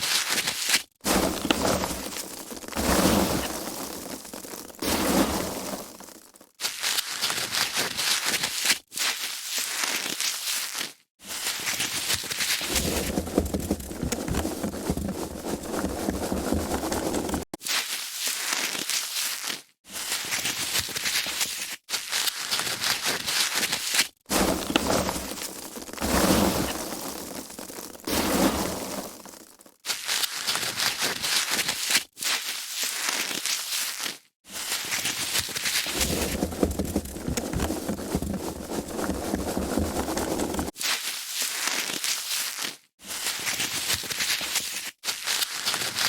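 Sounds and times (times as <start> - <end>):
foam packaging crackling: 0.0 - 46.0.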